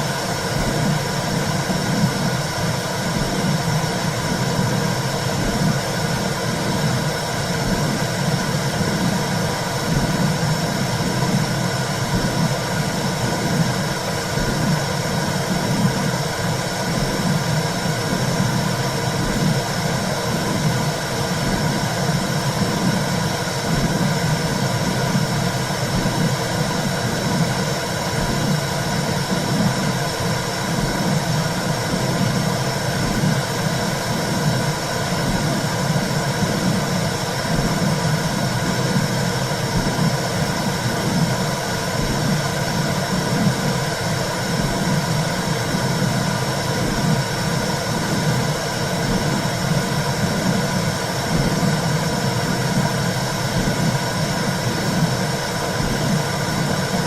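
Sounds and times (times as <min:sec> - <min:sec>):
low pulsing whooshing noise: 0:00.0 - 0:57.0.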